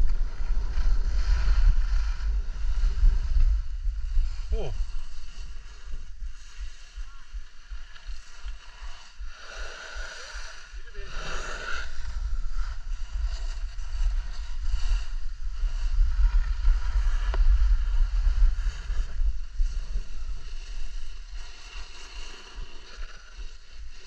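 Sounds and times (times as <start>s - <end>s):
skis scraping on snow: 0.0s - 24.0s
wind buffeting microphone: 0.0s - 24.0s.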